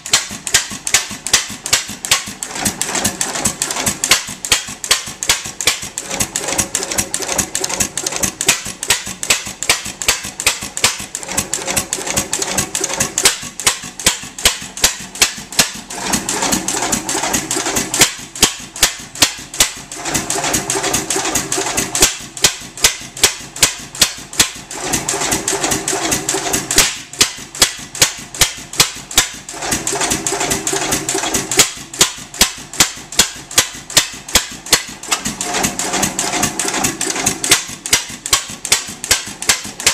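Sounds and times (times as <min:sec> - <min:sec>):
engine exhaust beats: 0:00.0 - 0:39.9.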